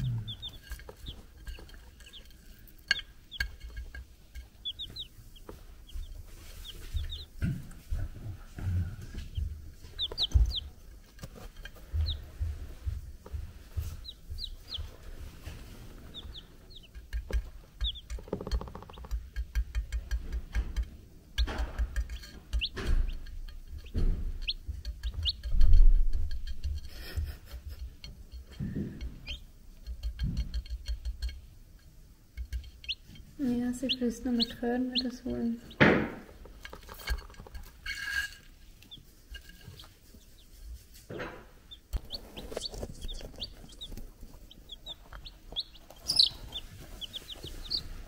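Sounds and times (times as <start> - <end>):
chicks peeping: 0.0 - 31.5, 32.4 - 48.0
chick pecking on plate: 0.0 - 48.0.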